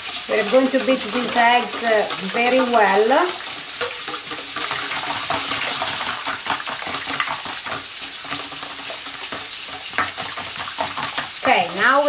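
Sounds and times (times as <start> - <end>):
whisk beating eggs in metal bowl: 0.0 - 11.5.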